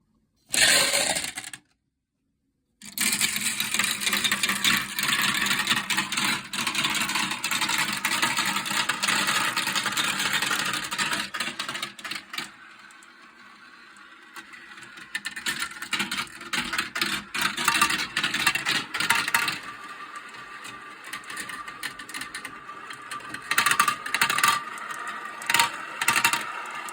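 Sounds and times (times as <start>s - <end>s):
marbles rolling and clattering: 0.5s - 1.6s, 2.8s - 26.9s.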